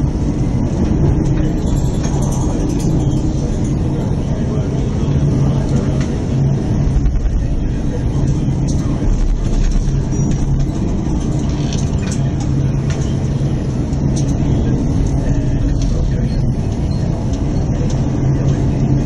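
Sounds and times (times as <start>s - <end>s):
low steady hum: 0.0s - 19.0s
wind and heavy sea rumble: 0.0s - 19.0s.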